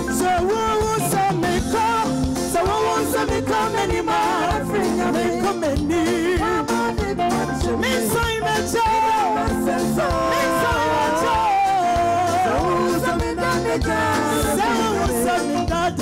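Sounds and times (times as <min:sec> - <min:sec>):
drum kit: 0:00.0 - 0:16.0
electric bass guitar: 0:00.0 - 0:16.0
keyboard: 0:00.0 - 0:16.0
woman singing lead: 0:00.0 - 0:16.0.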